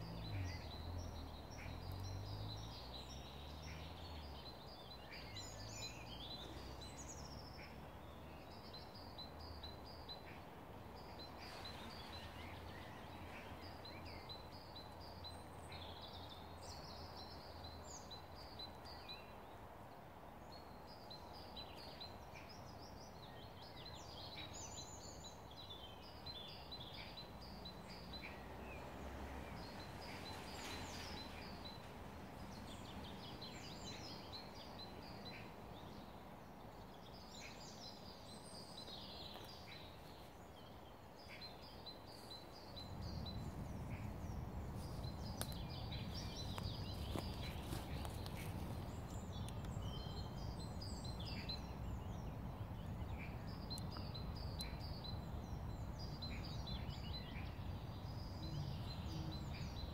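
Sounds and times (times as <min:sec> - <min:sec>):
small birds singing: 0:00.0 - 0:59.9.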